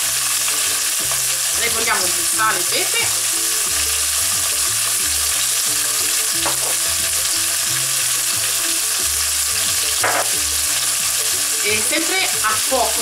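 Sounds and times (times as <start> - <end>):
tomatoes sizzling in oil: 0.0 - 13.0.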